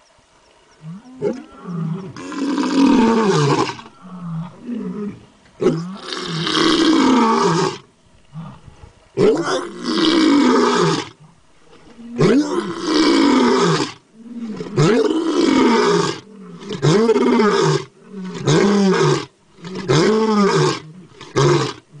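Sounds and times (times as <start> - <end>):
tiger roaring: 0.8 - 21.8.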